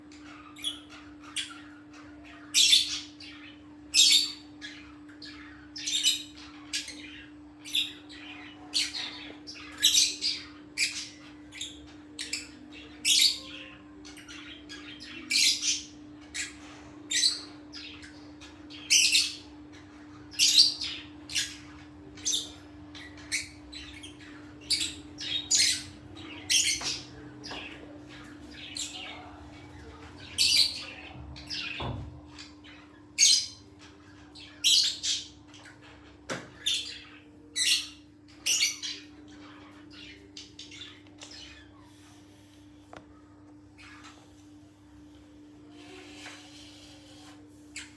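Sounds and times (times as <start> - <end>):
faint low hum: 0.0 - 47.9.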